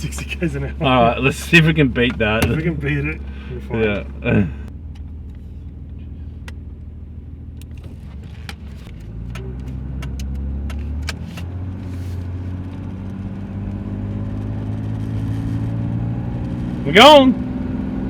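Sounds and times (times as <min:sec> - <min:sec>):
car engine pulling away: 0:00.0 - 0:18.0.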